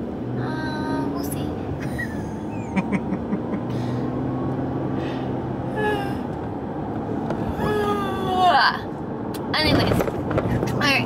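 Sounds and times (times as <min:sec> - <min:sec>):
car cabin road and engine noise: 0:00.0 - 0:11.0.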